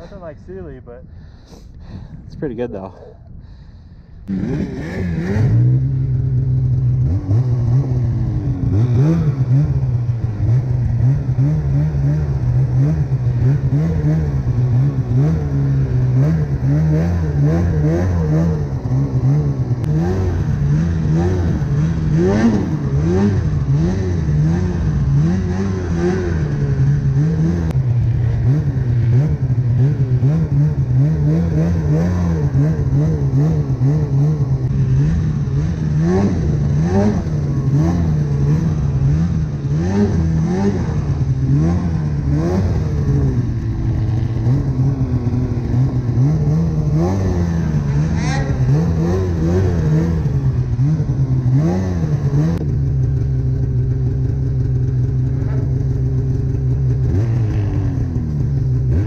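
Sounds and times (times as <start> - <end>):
snowmobile engine revving: 4.2 - 59.0.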